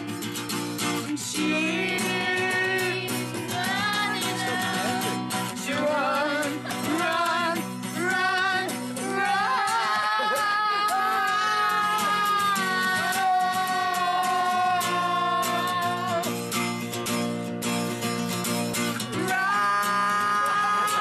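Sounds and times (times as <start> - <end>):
strummed acoustic guitar: 0.0 - 21.0
voices singing together: 1.1 - 16.4, 19.0 - 21.0.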